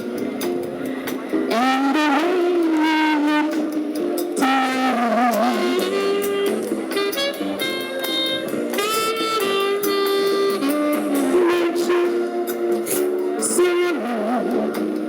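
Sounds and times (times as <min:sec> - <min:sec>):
saxophone melody: 0:00.0 - 0:15.0.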